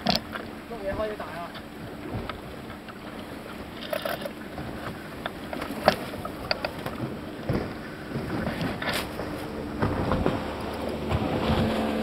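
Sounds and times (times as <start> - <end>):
rush of wind and water: 0.0 - 12.0.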